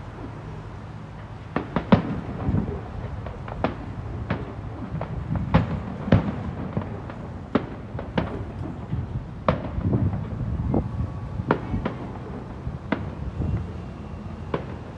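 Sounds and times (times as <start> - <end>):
fireworks bangs: 1.2 - 14.9.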